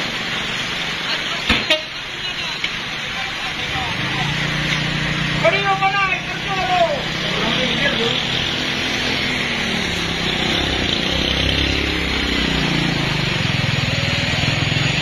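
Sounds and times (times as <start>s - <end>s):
truck engine under load: 0.0s - 15.0s.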